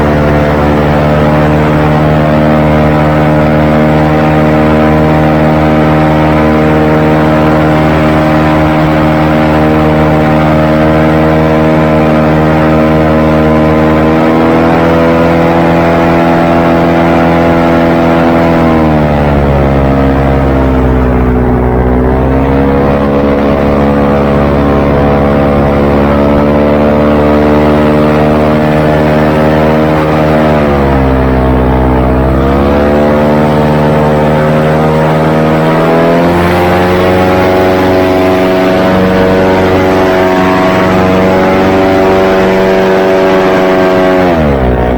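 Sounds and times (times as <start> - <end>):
airboat engine and propeller: 0.0 - 44.9.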